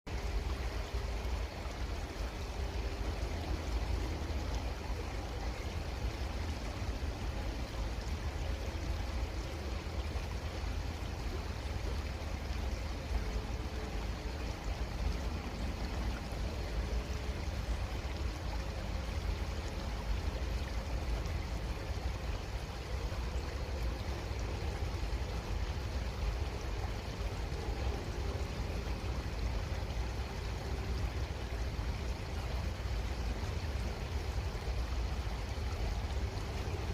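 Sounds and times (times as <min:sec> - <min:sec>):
creek water rushing: 0:00.1 - 0:36.9.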